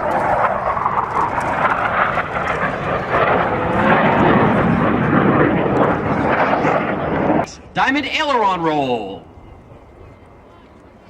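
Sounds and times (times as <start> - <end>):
jet roar flying past: 0.0 - 11.0.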